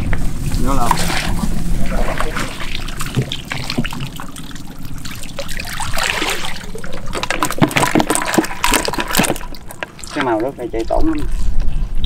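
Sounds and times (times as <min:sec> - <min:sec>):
water trickling and splashing: 0:00.0 - 0:11.6.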